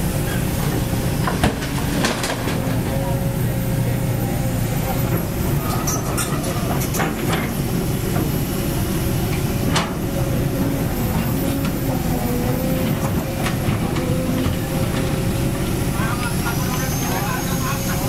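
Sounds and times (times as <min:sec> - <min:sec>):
heavy construction machinery rumble: 0:00.0 - 0:18.0.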